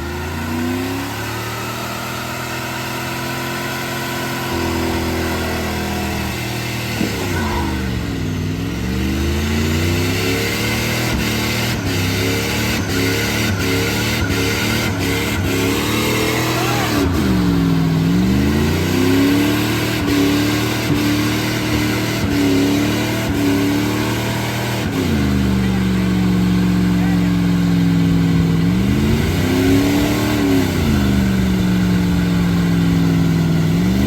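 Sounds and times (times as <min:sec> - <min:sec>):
pickup truck engine revving: 0:00.0 - 0:34.0.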